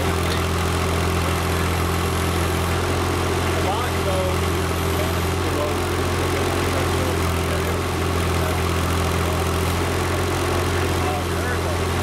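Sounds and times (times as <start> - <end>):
loader engine running: 0.0 - 12.0.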